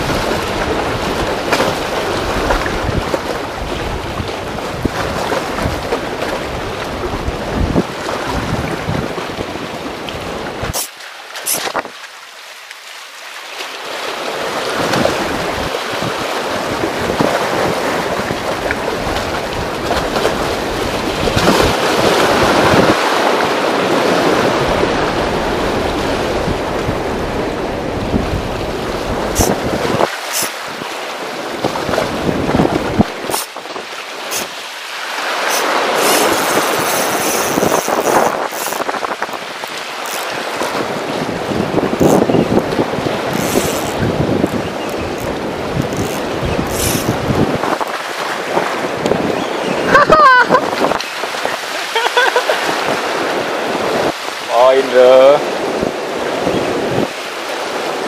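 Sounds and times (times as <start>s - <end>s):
wind buffeting microphone: 0.0s - 10.8s, 14.6s - 34.6s, 35.3s - 54.4s, 55.4s - 58.0s
waves washing against concrete: 0.0s - 58.0s.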